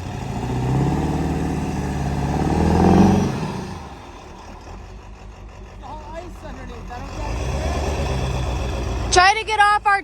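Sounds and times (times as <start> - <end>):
diesel truck engine revving: 0.0 - 10.0.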